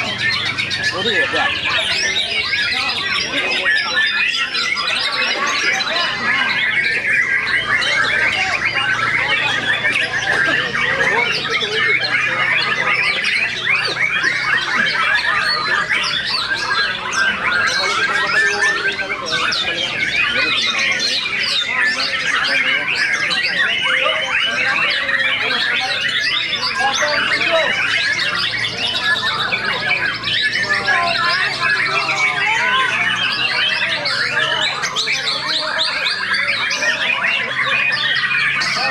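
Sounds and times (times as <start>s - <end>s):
chorus of songbirds: 0.0s - 38.9s.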